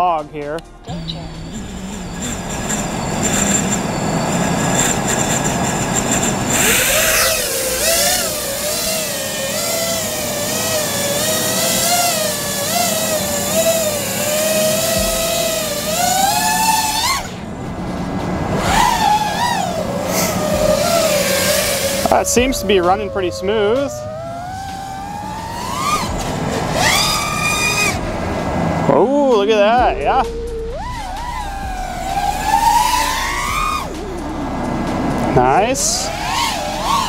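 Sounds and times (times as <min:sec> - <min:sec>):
quadcopter motors whining: 0:00.8 - 0:37.0.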